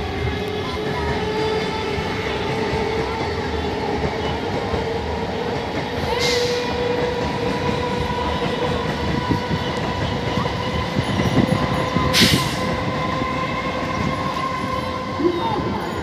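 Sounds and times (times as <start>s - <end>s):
train hum: 0.0s - 16.0s
train wheels rumbling on rail: 0.0s - 16.0s.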